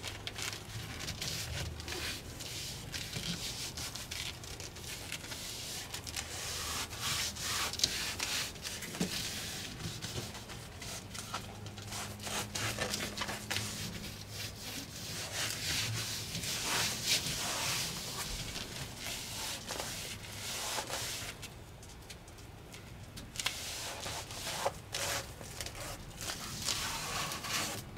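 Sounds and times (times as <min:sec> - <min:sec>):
hands rubbing foam insulation: 0:00.4 - 0:21.4, 0:23.4 - 0:27.9.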